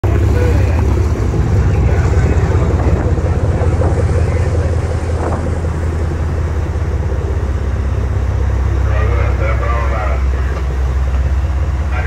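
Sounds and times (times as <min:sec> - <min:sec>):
boat diesel engines rumbling: 0:00.0 - 0:12.0
wind buffeting microphone: 0:00.0 - 0:12.0.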